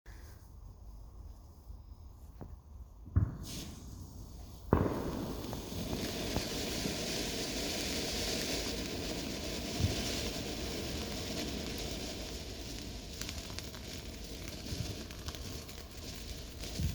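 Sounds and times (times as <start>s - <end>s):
hissing crackle: 0.1s - 16.9s
fireworks bangs: 2.4s - 16.9s.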